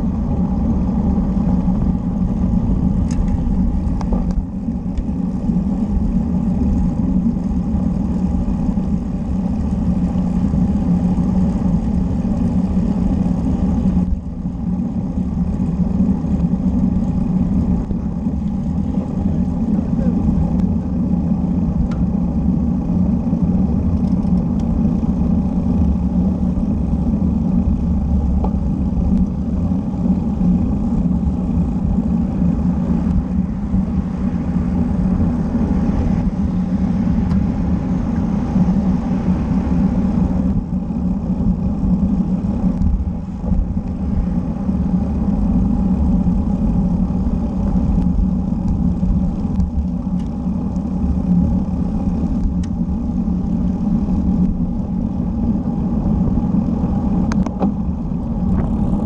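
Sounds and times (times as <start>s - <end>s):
bike tyres rolling on asphalt: 0.0s - 59.0s
wind rumble on microphone: 0.0s - 59.0s.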